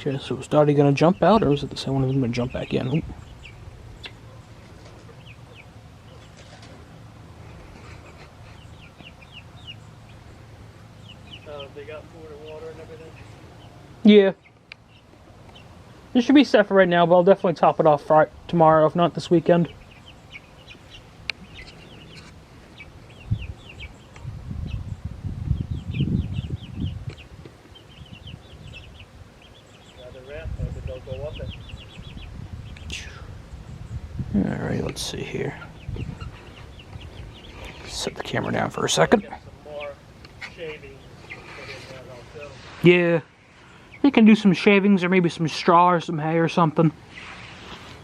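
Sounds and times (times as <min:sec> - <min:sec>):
young chickens peeping: 0:00.0 - 0:48.0.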